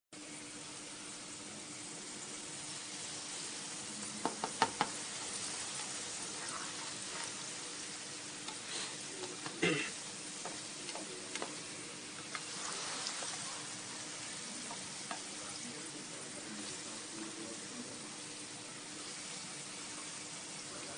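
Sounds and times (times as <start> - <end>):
meatballs frying with crackles: 0.2 - 20.9
oil sizzling in a frying pan: 0.2 - 20.9.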